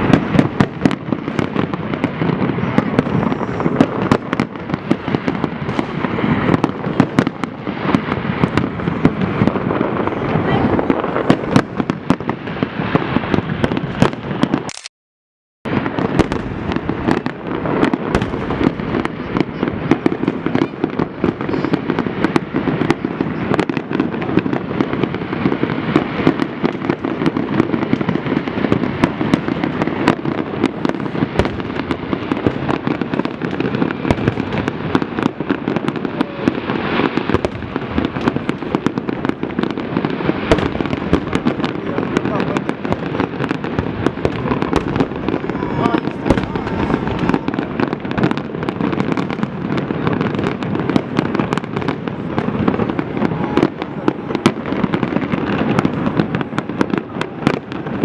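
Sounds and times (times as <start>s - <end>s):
fireworks bursting and crackling: 0.0s - 14.9s, 15.7s - 58.0s.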